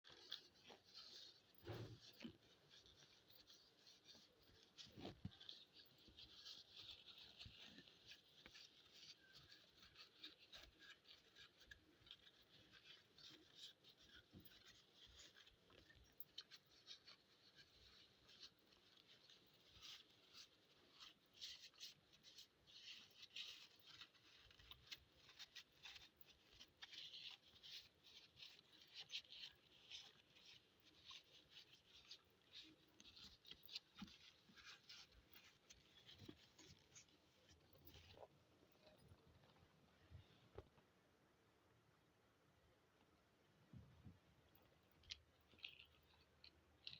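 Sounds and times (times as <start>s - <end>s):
faint scratching and clicking: 0.0s - 46.9s.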